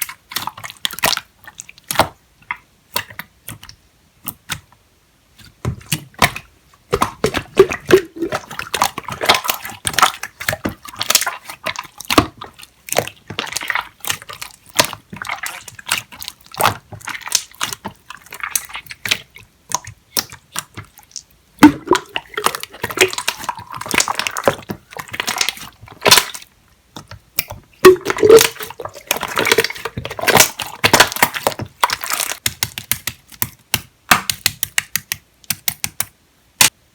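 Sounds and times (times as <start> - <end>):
slime squelching by hand: 0.0 - 4.7, 5.3 - 35.7.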